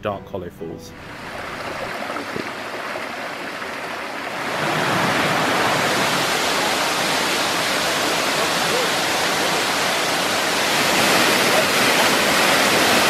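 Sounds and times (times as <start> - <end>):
water rushing over rocks: 1.0 - 13.0.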